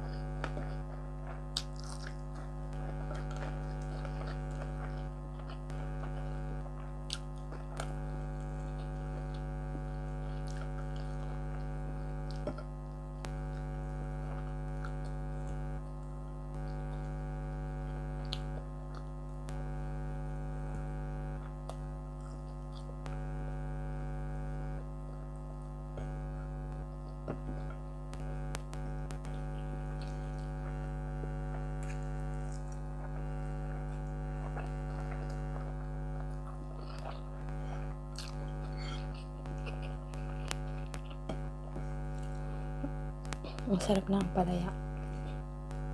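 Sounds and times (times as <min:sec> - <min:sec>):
air conditioner humming: 0:00.0 - 0:45.9
small eating clicks: 0:00.1 - 0:19.6, 0:26.7 - 0:45.8
soft chewing: 0:00.1 - 0:23.8, 0:24.6 - 0:45.9.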